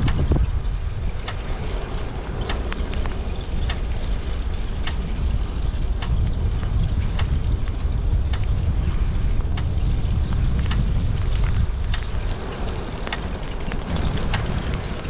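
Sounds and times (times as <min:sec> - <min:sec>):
sharp ticks: 0:00.0 - 0:15.0
wind buffeting microphone: 0:00.0 - 0:15.0.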